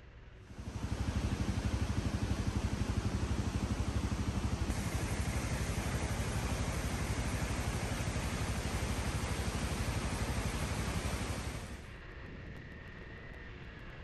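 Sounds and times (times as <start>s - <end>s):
motorcycle engine running: 0.5s - 11.8s.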